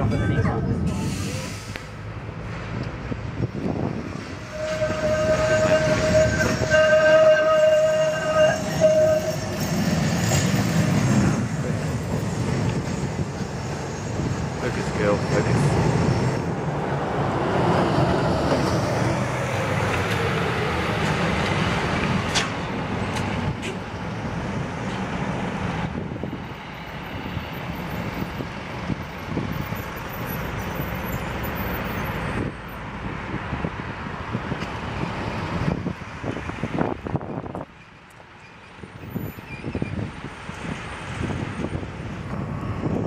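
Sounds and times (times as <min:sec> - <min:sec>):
electric tram running: 0:00.0 - 0:43.0
street traffic: 0:00.0 - 0:43.0.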